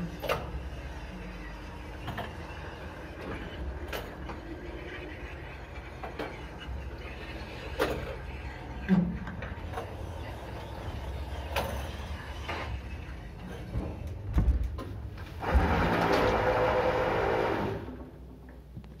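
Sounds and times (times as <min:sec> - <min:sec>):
steady mechanical whirring: 0:00.0 - 0:18.3.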